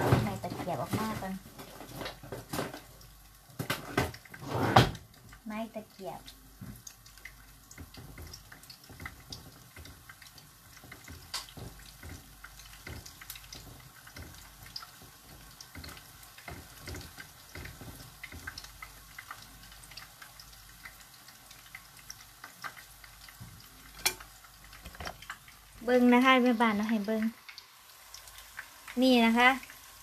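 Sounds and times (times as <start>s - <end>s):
food deep-frying in oil: 0.0s - 30.0s.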